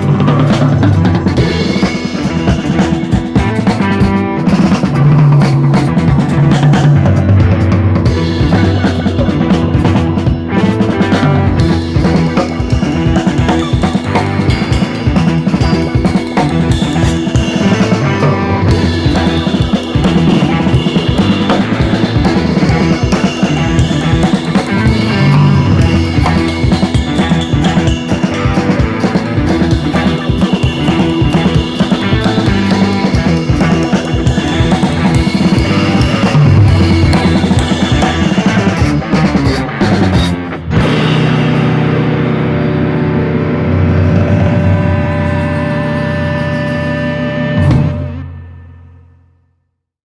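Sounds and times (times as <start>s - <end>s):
instrumental music with drum beat: 0.0s - 48.4s.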